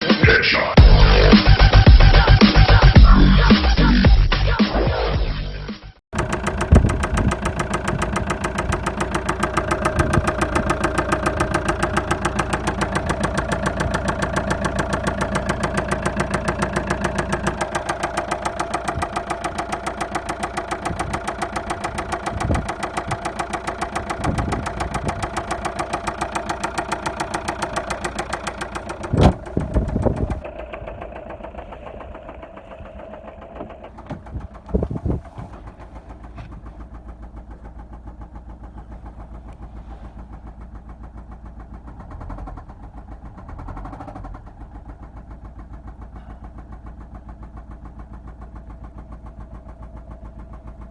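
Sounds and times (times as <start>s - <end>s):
diesel engine knocking: 0.8s - 3.4s, 6.1s - 50.9s.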